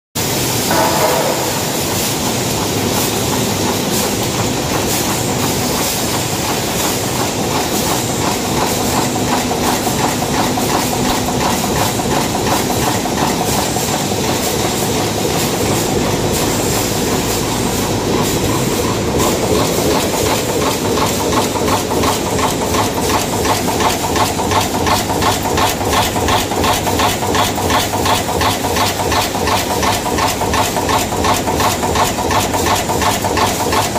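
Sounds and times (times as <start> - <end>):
machine punches clattering: 0.2 - 33.9
steady mechanical din: 0.2 - 33.9.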